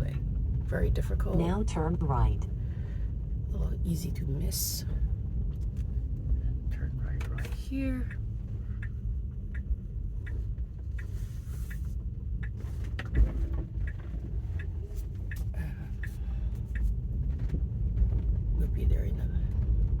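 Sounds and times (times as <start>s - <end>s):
car cabin rumble: 0.0s - 20.0s
turn signal ticking: 0.0s - 20.0s.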